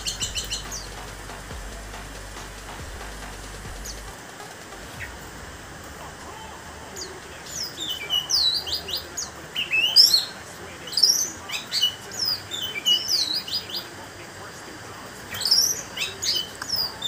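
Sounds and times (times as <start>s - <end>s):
thrush singing whistled notes: 0.0s - 17.0s.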